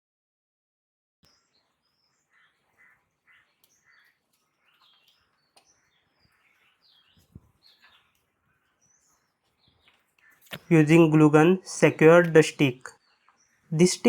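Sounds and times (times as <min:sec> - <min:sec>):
faint birds chirping: 0:01.3 - 0:14.0.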